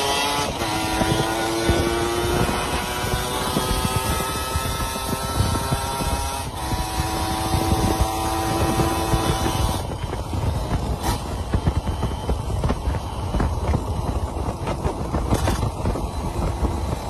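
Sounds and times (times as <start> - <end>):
exhaust popping: 0.0 - 17.0
two-stroke motorcycle engine: 0.0 - 17.0.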